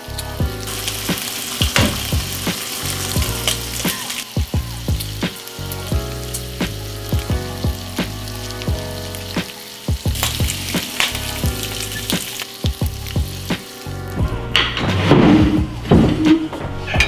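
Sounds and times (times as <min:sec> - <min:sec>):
food sizzling in a pan: 0:00.0 - 0:14.2
music with kick-drum beat: 0:00.4 - 0:14.6.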